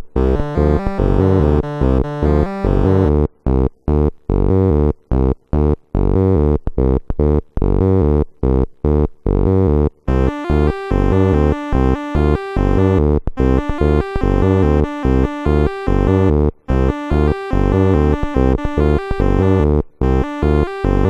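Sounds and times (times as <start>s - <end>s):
deep bass line: 0.0s - 21.0s
stepped synth notes: 0.0s - 21.0s.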